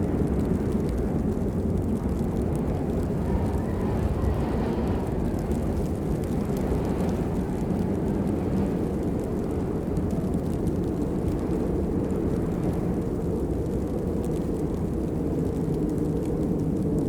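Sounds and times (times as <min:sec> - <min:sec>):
raindrop ticks: 0:00.0 - 0:17.0
steady rain: 0:00.0 - 0:17.0.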